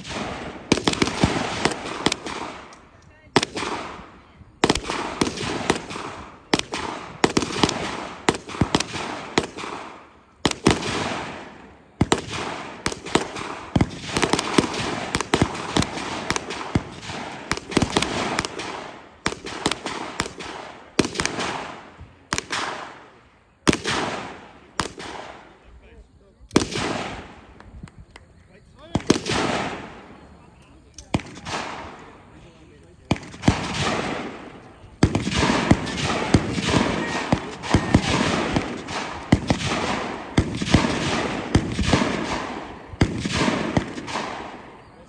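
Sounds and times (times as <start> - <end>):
echoing gunshots: 0.0 - 25.6, 26.5 - 27.6, 28.8 - 45.0.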